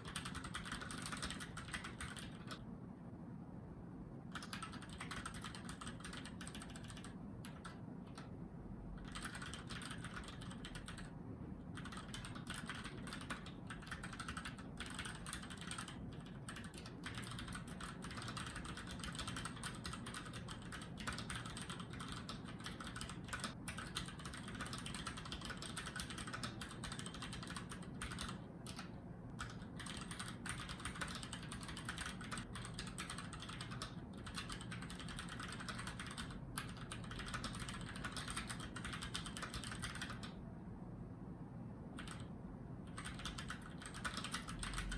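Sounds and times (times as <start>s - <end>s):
mechanical keyboard typing: 0.0s - 2.6s, 4.3s - 8.3s, 9.0s - 40.4s, 42.0s - 44.9s.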